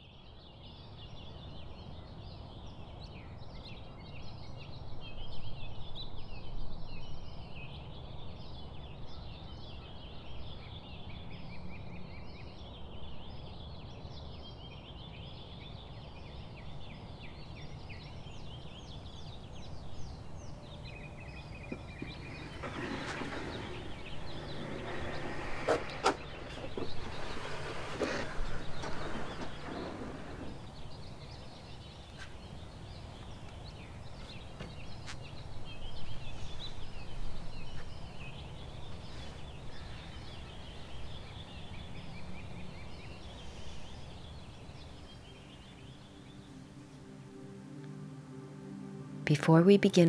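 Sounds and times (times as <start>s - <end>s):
birds chirping and singing: 0.0s - 50.0s.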